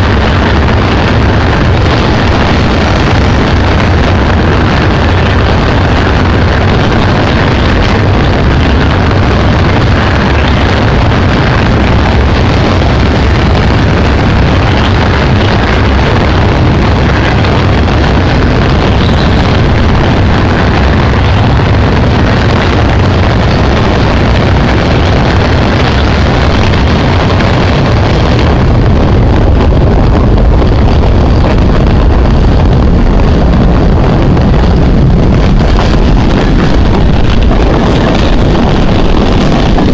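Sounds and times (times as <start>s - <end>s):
train wheels rumbling on rails: 0.0s - 39.9s
wind buffeting microphone: 0.0s - 39.9s.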